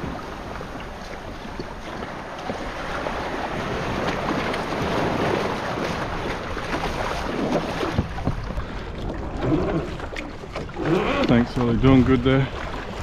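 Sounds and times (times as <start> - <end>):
splashes and knocks: 0.0 - 13.0
water sloshing against hull: 0.0 - 13.0
wind buffeting microphone: 0.0 - 13.0.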